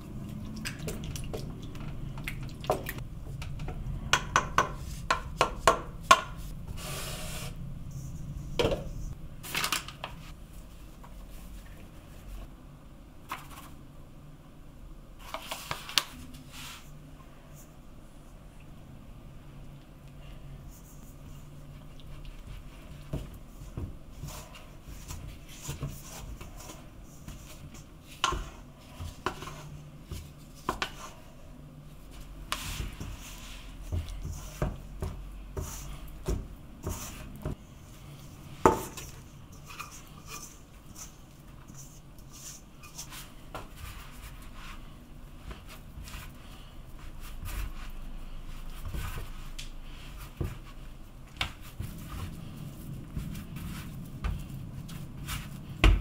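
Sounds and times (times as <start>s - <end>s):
hand mixing dough: 0.0s - 12.5s, 15.2s - 56.0s.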